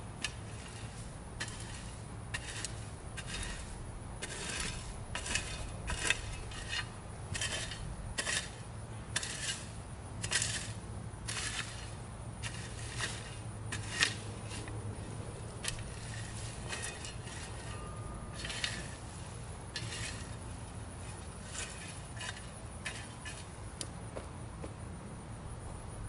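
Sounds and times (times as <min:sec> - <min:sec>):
steady low hum: 0:00.0 - 0:26.0
hand tools scraping and clinking: 0:00.2 - 0:08.6, 0:09.2 - 0:23.8.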